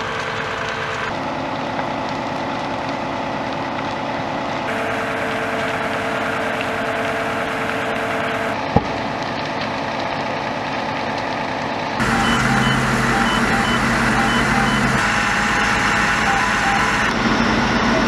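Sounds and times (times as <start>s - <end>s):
fire engine running: 0.0s - 18.0s.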